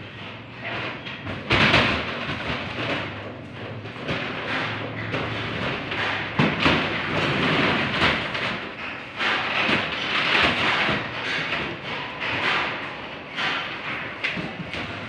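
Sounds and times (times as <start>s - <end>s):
plastic containers knocking on metal: 0.2s - 15.0s.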